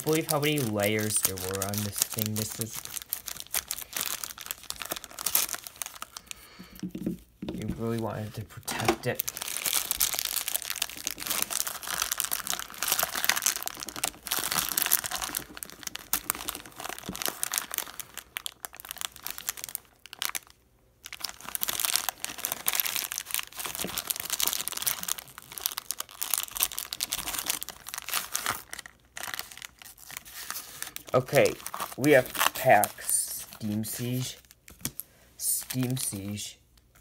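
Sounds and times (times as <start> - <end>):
plastic wrap crinkling: 0.0 - 37.0.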